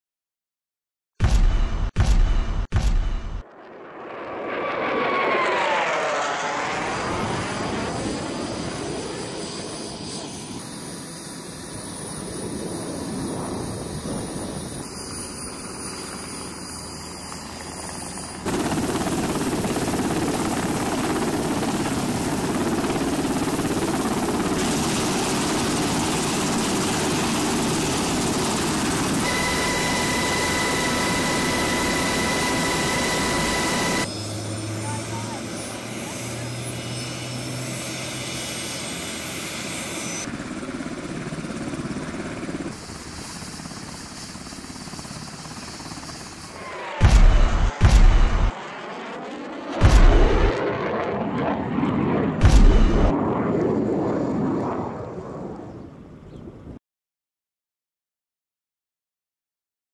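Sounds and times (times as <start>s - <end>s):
helicopter rotor and turbine: 1.2s - 56.8s
steady turbine whine: 2.9s - 55.5s.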